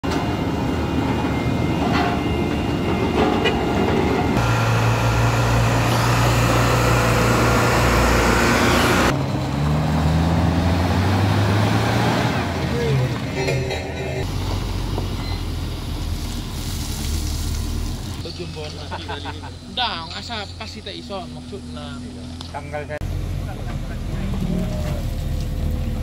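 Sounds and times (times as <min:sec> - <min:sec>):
diesel truck engines droning: 0:00.0 - 0:26.0.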